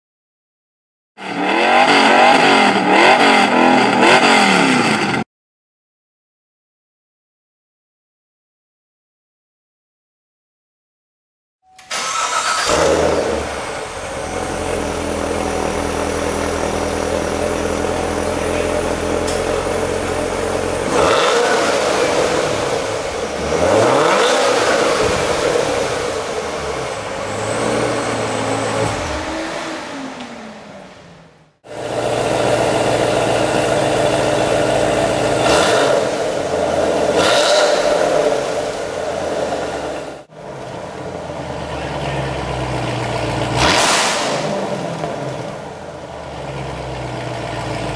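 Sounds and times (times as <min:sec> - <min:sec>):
car engine revving: 0:01.2 - 0:05.2, 0:11.9 - 0:47.9.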